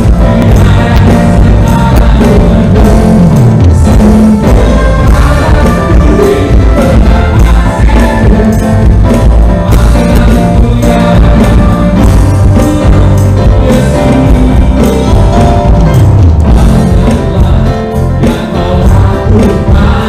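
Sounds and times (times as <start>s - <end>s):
drum kit beat: 0.0s - 20.0s
worship band playing: 0.0s - 20.0s.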